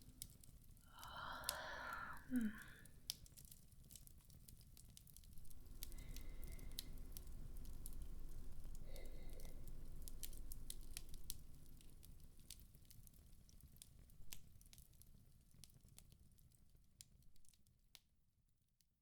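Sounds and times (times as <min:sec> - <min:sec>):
bonfire crackling: 0:00.0 - 0:17.6.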